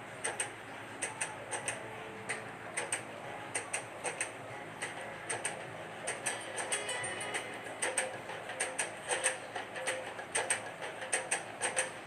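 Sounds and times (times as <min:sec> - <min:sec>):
sharp ticking clicks: 0:00.2 - 0:12.0.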